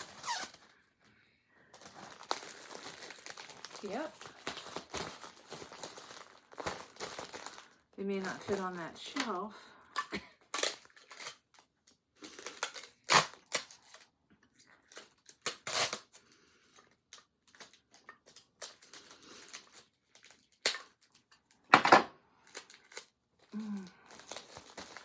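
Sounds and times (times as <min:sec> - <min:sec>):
yarn packaging rustling and crinkling: 0:00.0 - 0:09.6, 0:10.5 - 0:21.7, 0:22.4 - 0:25.0.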